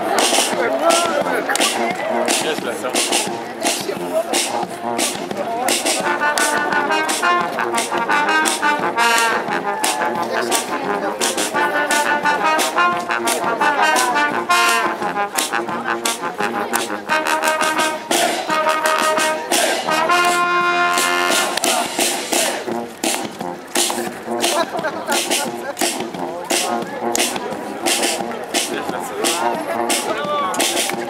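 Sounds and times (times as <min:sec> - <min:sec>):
brass band melody: 0:00.0 - 0:31.0
steady drum beat: 0:00.0 - 0:31.0.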